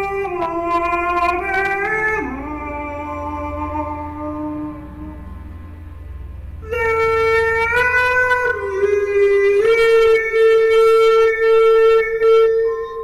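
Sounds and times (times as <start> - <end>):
slow reedy wind instrument melody: 0.0 - 13.0.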